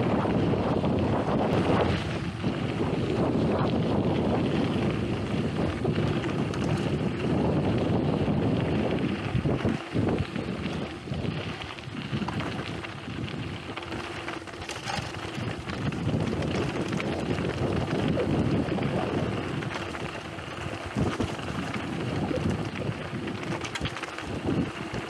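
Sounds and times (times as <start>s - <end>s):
bike knocks and rattles: 0.0s - 25.0s
wind rushing over microphone: 0.0s - 25.0s
tyres crunching over gravel: 0.5s - 25.0s.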